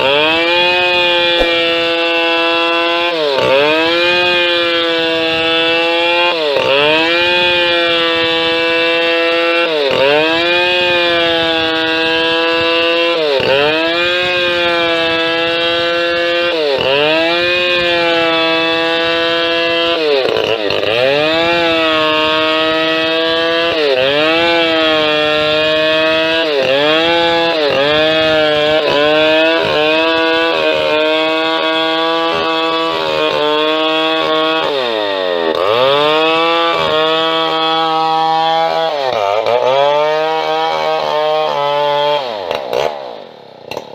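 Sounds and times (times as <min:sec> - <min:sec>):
chainsaw ripping wood: 0:00.0 - 0:43.9.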